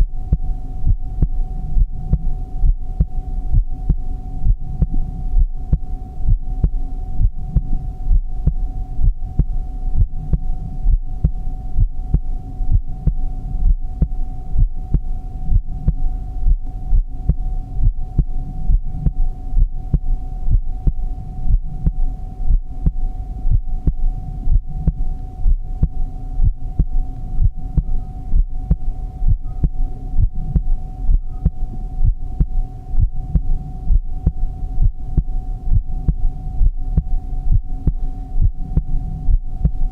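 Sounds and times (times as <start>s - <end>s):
heartbeat thumps: 0.0s - 39.9s
steady hum: 0.0s - 39.9s.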